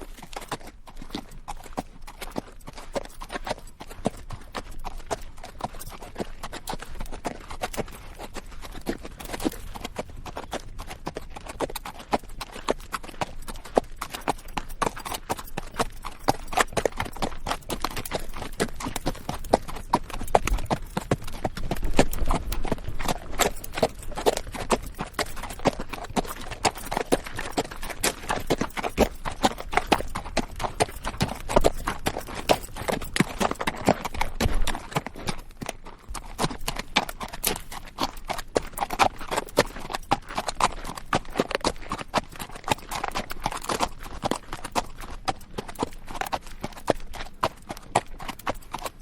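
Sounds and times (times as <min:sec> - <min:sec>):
horse hooves clip-clopping: 0:00.0 - 0:49.0
saddle creaking: 0:00.1 - 0:49.0.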